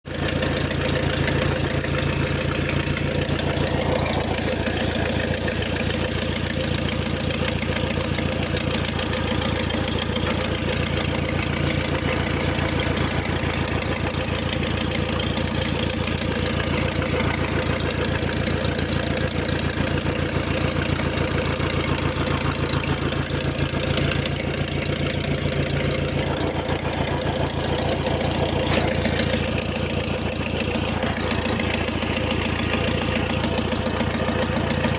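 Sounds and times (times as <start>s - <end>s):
car engine idling: 0.0s - 34.9s
fast rhythmic engine knock: 0.0s - 34.9s.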